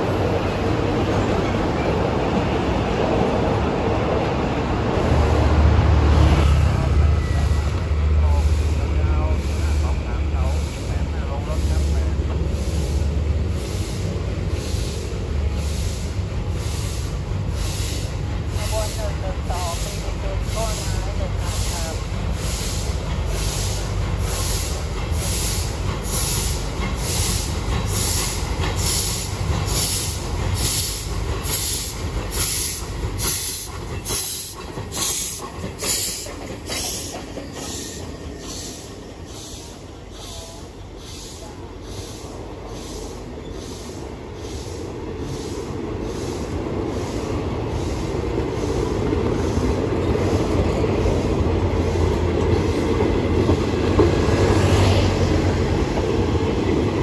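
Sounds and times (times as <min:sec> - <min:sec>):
coach wheels rumbling: 0:00.0 - 0:57.0
steam locomotive exhaust beats: 0:04.8 - 0:57.0.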